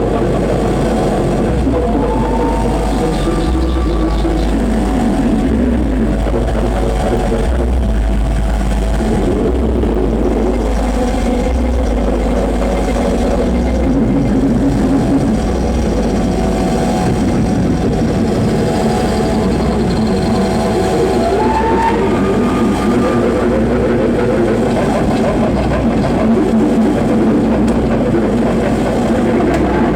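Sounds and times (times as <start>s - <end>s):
distorted noise music: 0.0s - 29.9s.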